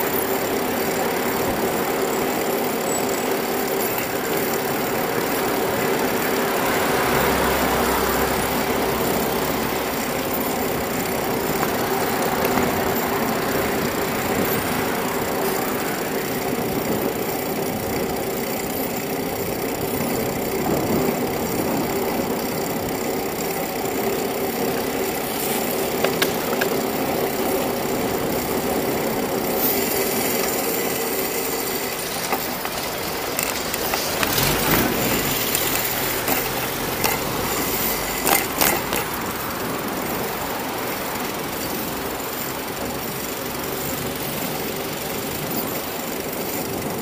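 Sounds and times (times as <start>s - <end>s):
bicycle knocks and rattles: 0.0s - 47.0s
bicycle rolling on asphalt: 0.0s - 47.0s.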